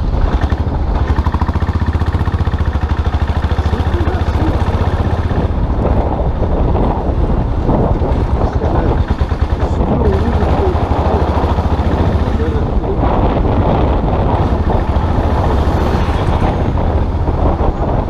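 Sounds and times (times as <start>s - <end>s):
motorcycle engine running: 0.0s - 18.0s
wind noise: 0.0s - 18.0s.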